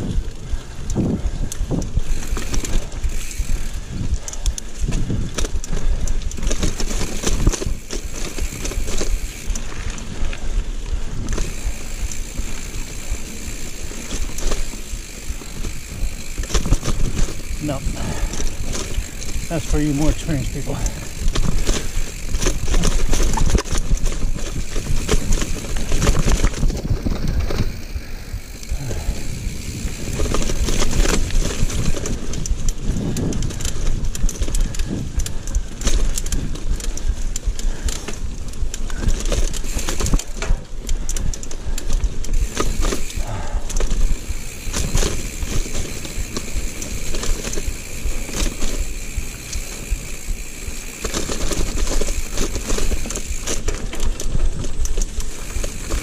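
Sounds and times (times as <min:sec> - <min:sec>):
bike rattling and knocking: 0:00.0 - 0:56.0
bike tyres rumbling on dirt: 0:00.0 - 0:56.0.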